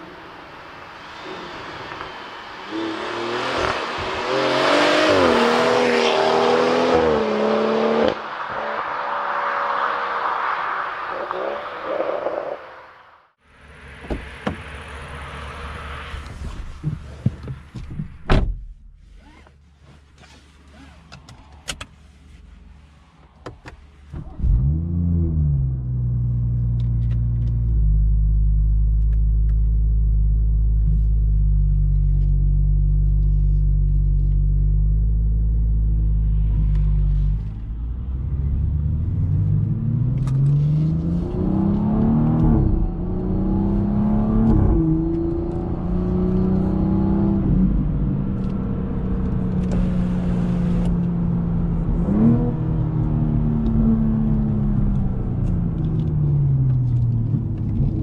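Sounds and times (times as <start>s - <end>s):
car engine starting and revving: 0.0s - 17.2s, 24.1s - 58.0s.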